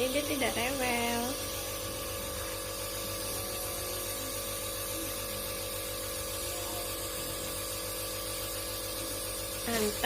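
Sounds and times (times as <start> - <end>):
nebulizer compressor humming: 0.0 - 10.0.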